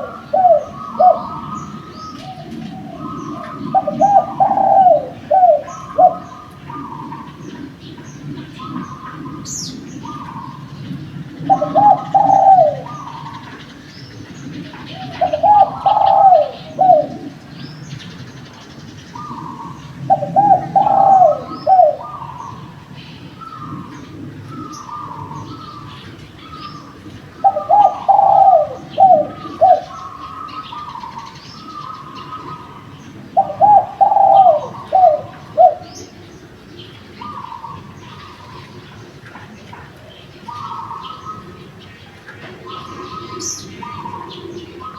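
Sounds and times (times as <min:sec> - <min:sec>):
dove cooing: 0:00.0 - 0:44.9
small birds chirping: 0:00.0 - 0:44.9.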